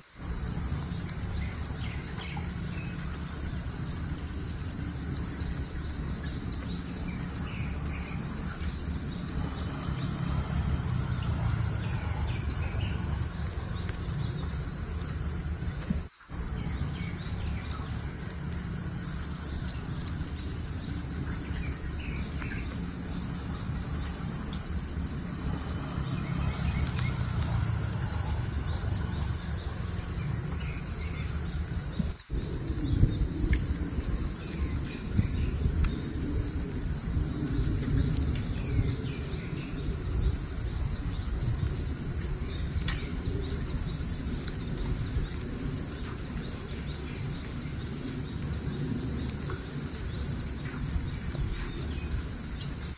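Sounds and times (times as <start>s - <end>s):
insects chorus: 0.0s - 52.9s
low wind rumble: 0.0s - 52.9s.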